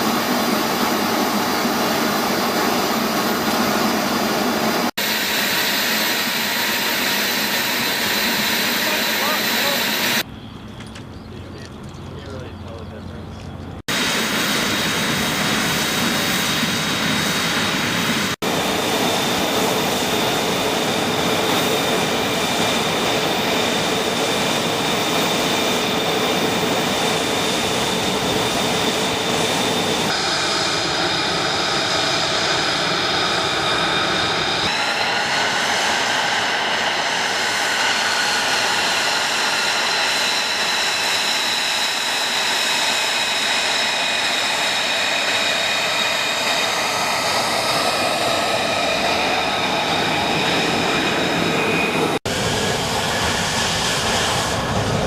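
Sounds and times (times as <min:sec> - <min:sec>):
jet engine whistling whine: 0:00.0 - 0:55.0.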